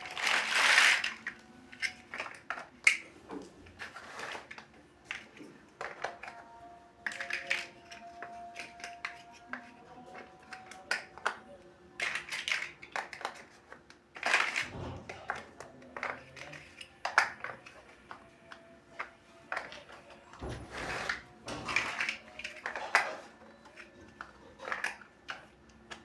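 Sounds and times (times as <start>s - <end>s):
plastic bricks clicking together: 0.0s - 3.0s, 7.0s - 20.1s, 21.0s - 26.0s.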